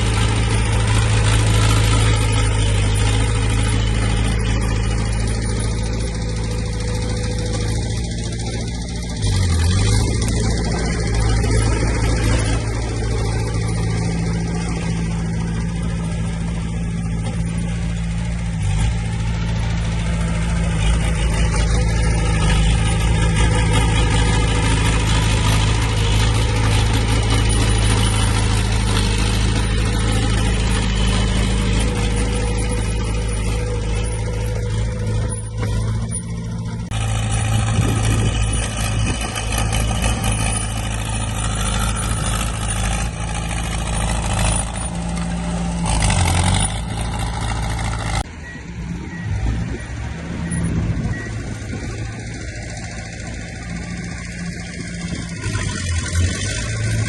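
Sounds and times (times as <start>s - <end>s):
diesel engine of heavy machinery: 0.0s - 57.0s.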